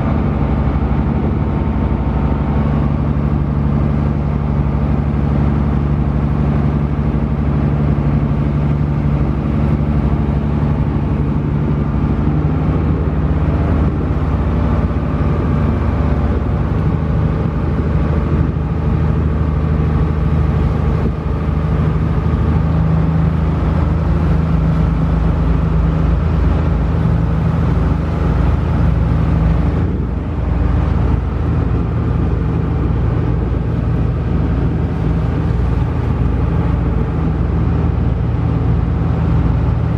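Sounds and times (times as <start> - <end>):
ferry engine droning: 0.0 - 39.9.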